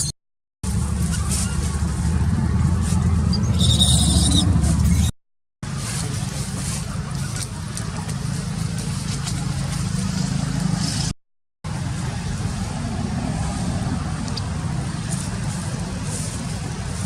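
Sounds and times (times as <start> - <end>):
low outdoor background rumble: 0.6 - 11.1, 11.7 - 17.0.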